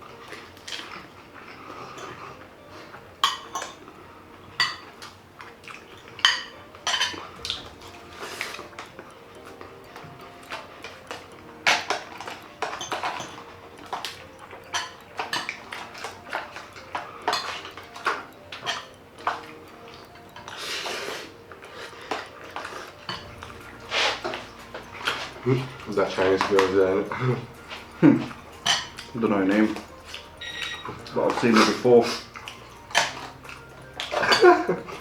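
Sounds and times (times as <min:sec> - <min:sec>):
cutlery clinking against dishes: 0:00.0 - 0:35.0.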